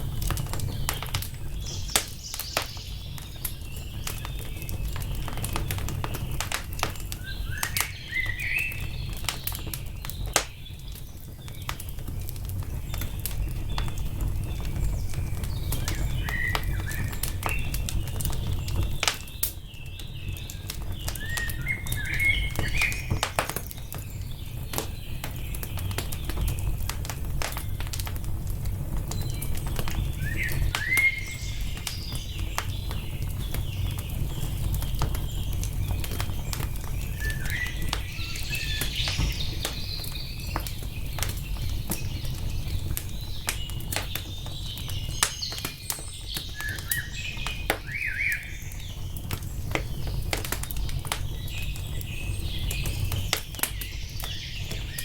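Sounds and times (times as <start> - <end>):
songbirds chirping: 0.0 - 55.0
wood fire crackling and popping: 0.0 - 55.0.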